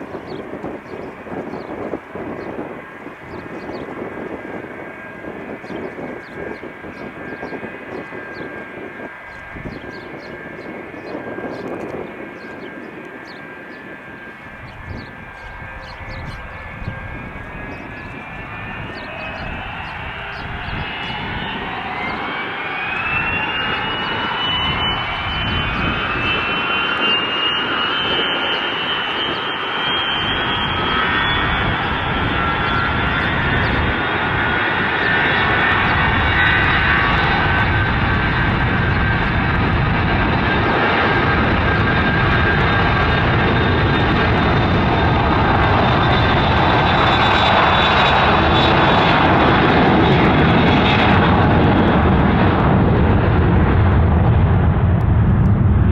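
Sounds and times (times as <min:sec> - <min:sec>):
turbofan engines whining at takeoff: 0:00.0 - 0:55.9.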